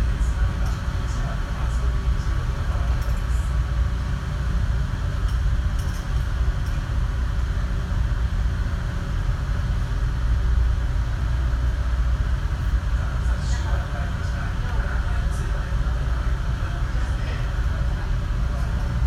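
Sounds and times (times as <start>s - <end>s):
ship engine low rumble: 0.0s - 19.0s.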